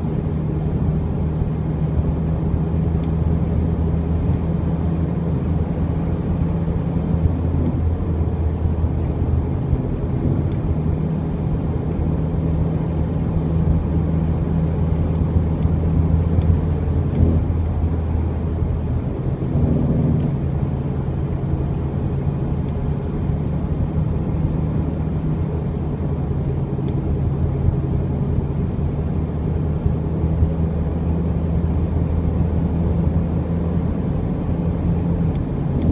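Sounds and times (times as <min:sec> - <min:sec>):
car driving drone: 0:00.0 - 0:35.9.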